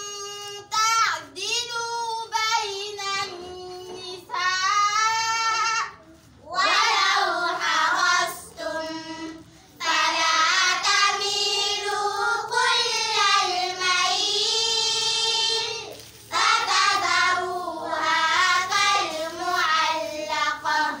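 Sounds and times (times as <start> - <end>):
girls chanting recitation: 0.0 - 21.0.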